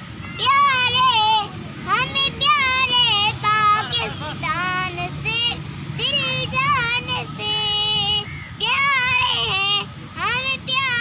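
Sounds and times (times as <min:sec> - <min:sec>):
boy singing: 0:00.3 - 0:11.0.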